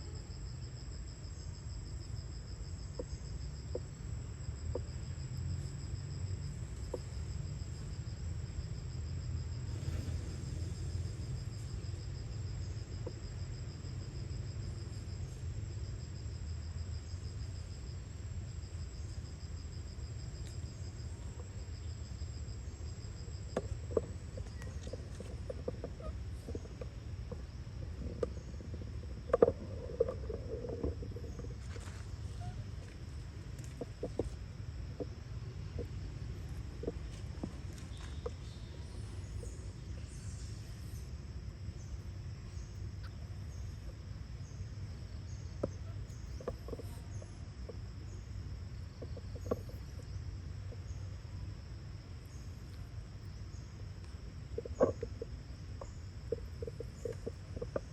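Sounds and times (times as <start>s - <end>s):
insect high continuous tone: 0.0s - 57.9s
insect pulsing trill: 0.0s - 57.9s.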